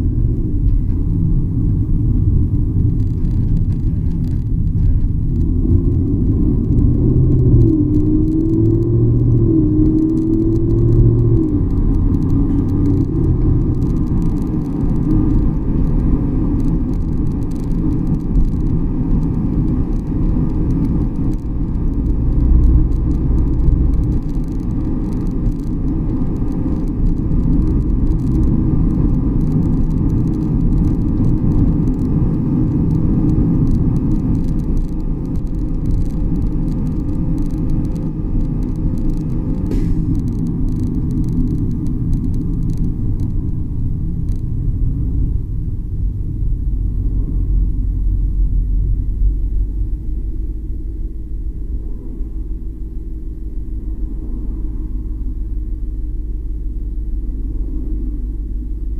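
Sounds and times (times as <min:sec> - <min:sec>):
road and tyre rumble: 0:00.0 - 0:58.9
suspension ticks and creaks: 0:00.0 - 0:58.9.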